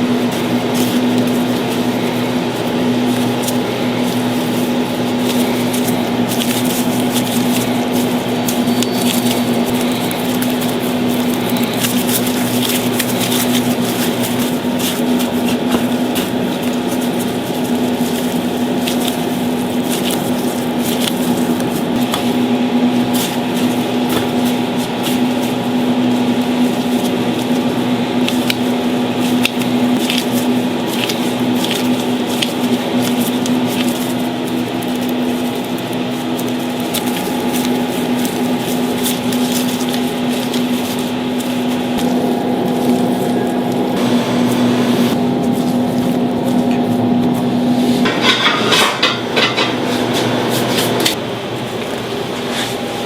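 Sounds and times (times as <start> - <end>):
food squishing and clicking: 0.0 - 44.6, 45.2 - 49.7
machine hum: 0.0 - 53.0.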